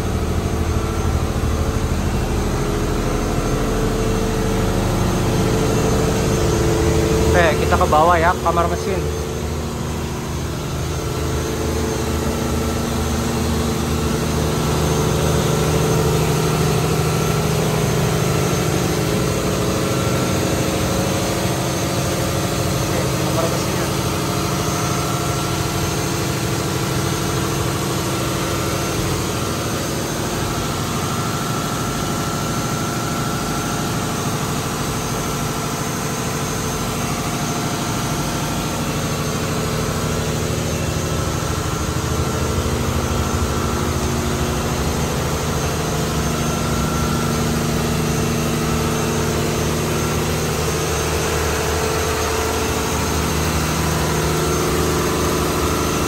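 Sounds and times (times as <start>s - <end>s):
ship engine room drone: 0.0s - 56.0s.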